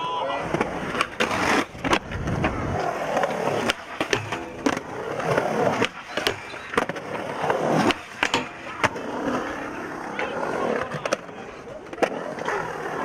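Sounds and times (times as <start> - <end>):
skateboard wheels rolling on concrete: 0.0 - 13.0
skateboard popping and landing: 0.4 - 13.0.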